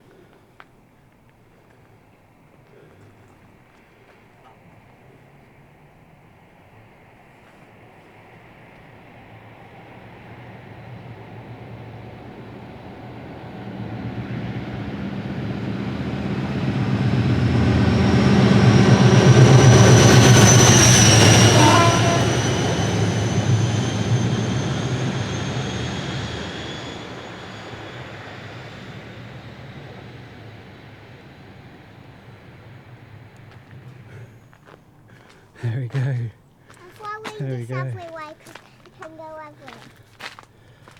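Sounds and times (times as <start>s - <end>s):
diesel locomotive passing: 3.4s - 40.9s.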